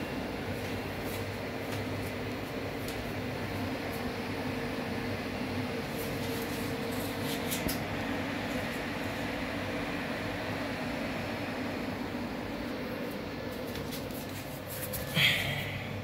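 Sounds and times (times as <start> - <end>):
cooling fans whirring: 0.0 - 16.0.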